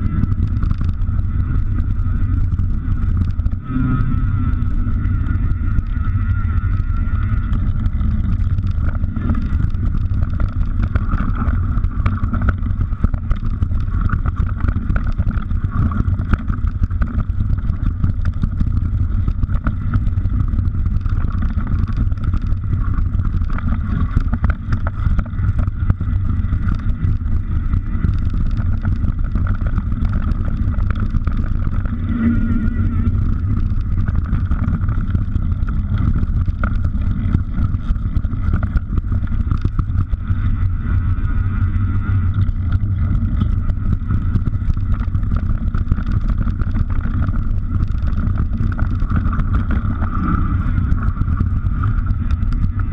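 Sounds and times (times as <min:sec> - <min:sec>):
bike tyre noise and rattling: 0:00.0 - 0:52.9
wind on microphone: 0:00.0 - 0:52.9.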